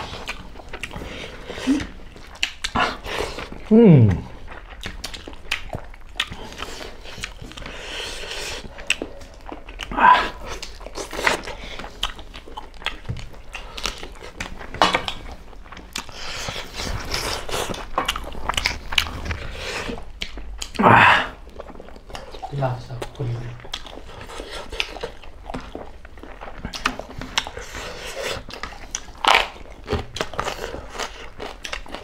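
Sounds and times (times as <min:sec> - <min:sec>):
people chewing food: 0:00.0 - 0:32.0.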